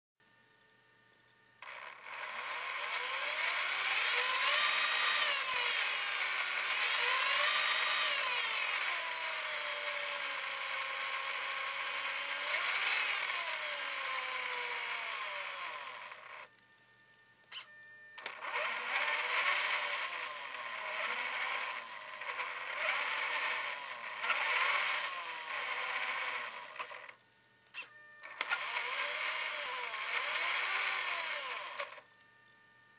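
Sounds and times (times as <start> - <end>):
buzz: 1.6 - 16.5, 17.5 - 27.1, 27.8 - 32.1
electric motor whine: 1.6 - 27.2, 27.8 - 32.8.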